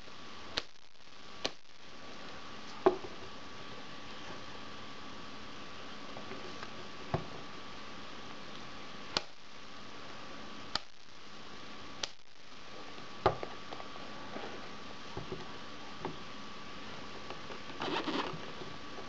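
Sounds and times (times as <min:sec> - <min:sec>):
background hiss: 0:00.0 - 0:19.0
faint hum: 0:00.0 - 0:19.0.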